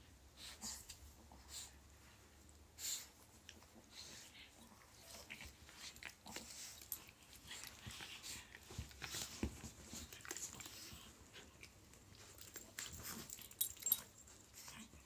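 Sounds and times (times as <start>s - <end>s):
dogs scuffling and mouthing: 0.4s - 15.0s.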